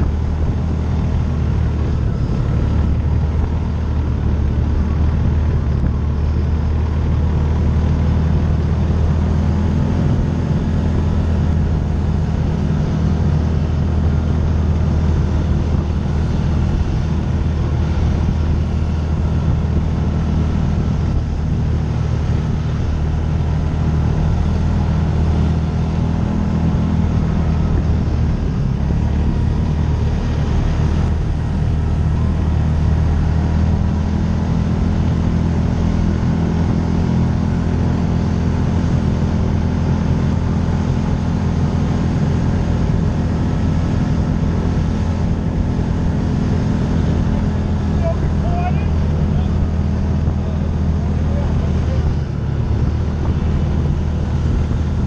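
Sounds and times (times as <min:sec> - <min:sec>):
road and wind noise: 0:00.0 - 0:55.0
utility vehicle engine droning: 0:00.0 - 0:55.0.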